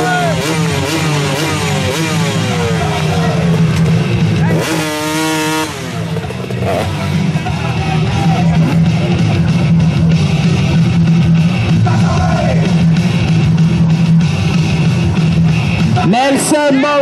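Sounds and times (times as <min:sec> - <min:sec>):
steady beat: 0:00.0 - 0:16.5
loud rock music: 0:00.0 - 0:17.0.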